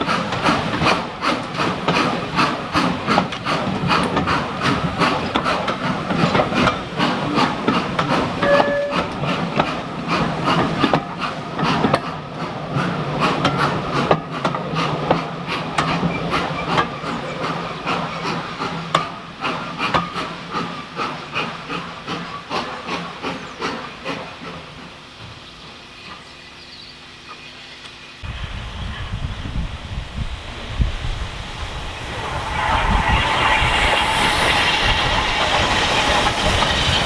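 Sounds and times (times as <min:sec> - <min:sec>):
train wheels clicking over rails: 0:00.0 - 0:26.4, 0:32.1 - 0:37.0.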